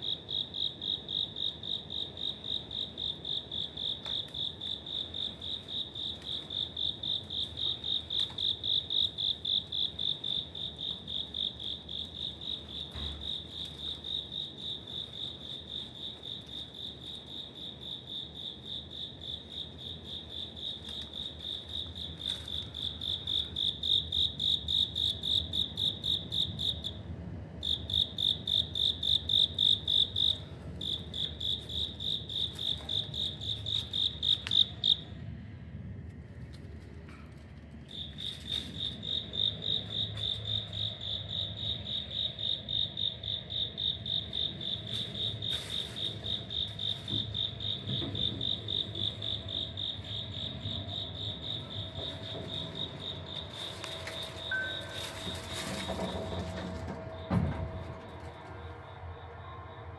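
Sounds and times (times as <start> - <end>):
cricket chirping: 0.0 - 35.2, 37.7 - 59.9.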